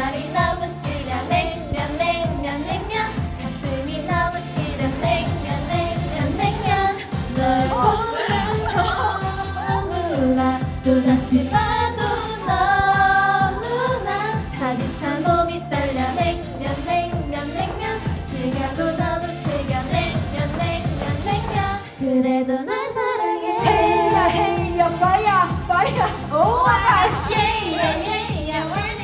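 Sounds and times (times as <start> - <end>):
pop song singing over a beat: 0.0 - 29.0.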